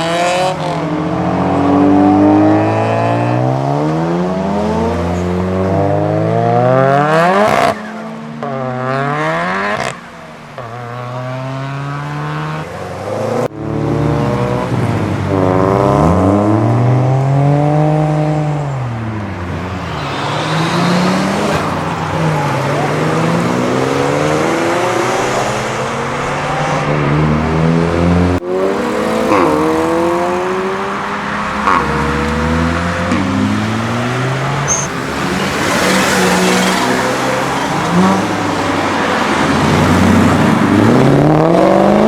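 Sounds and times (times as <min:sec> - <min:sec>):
car engines revving and accelerating: 0:00.0 - 0:42.0.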